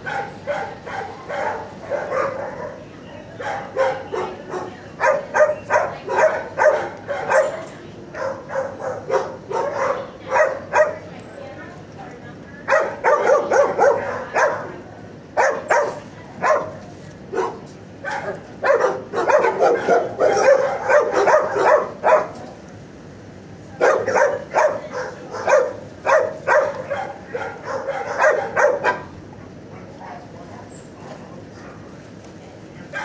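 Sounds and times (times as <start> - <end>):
dog barking: 0.0 - 11.1, 12.7 - 14.8, 15.4 - 22.5, 23.8 - 31.8.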